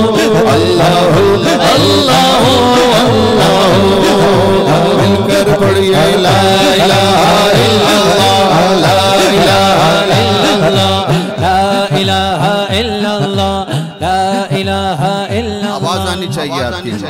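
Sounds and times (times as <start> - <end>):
men chanting rhythmically: 0.0 - 17.0.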